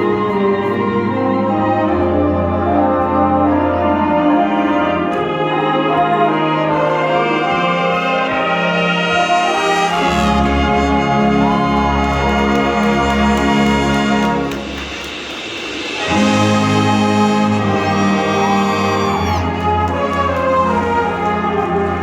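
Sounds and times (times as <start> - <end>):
brass band held chords: 0.0 - 22.0.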